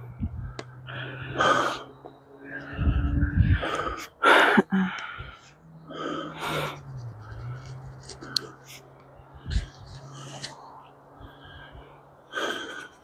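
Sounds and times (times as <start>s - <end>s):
person breathing hard: 0.3s - 13.0s.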